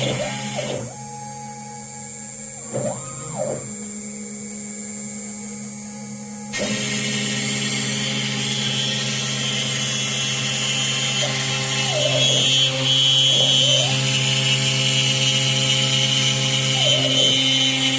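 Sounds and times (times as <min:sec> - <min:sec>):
cnc router spindle whine: 0:00.0 - 0:17.9
router cutting wood: 0:00.0 - 0:17.9.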